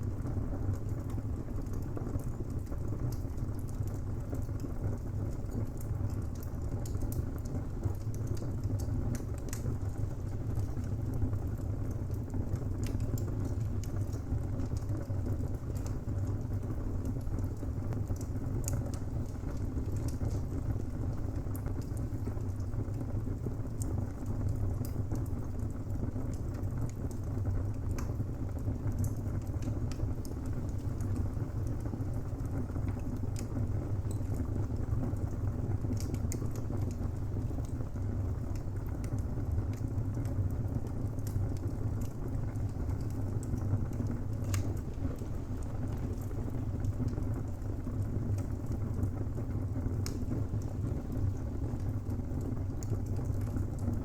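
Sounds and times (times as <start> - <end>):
fire low rumble: 0.0 - 54.0
wood crackling and popping: 0.0 - 54.0.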